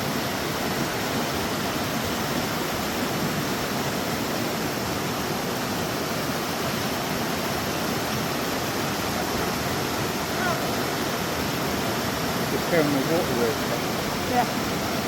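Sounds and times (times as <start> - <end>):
water rushing over waterfall: 0.0 - 15.0.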